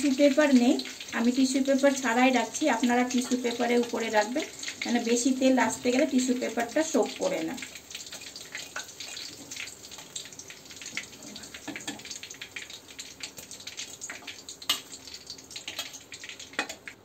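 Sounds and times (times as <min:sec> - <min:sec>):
frying oil crackling and sizzling: 0:00.0 - 0:17.0.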